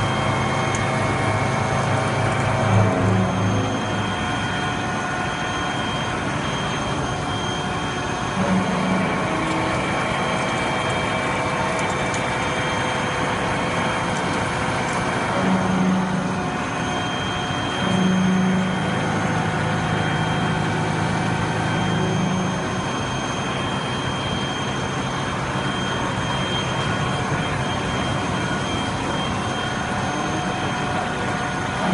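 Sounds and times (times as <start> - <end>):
deeper hum: 0.0 - 31.9
machine tool high whine: 0.0 - 31.9.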